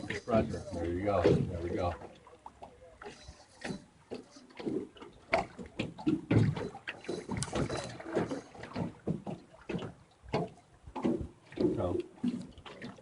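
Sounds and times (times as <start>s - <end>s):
boat knocks and clunks: 0.0s - 13.0s
faint water noise: 0.0s - 13.0s.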